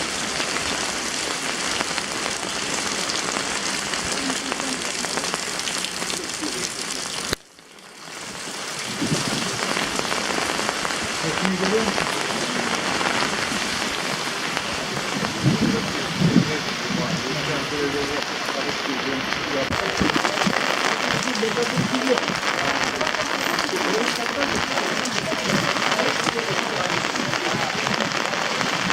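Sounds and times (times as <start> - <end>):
steady rain hiss: 0.0 - 28.9
faint voices: 1.1 - 7.4, 8.9 - 28.9.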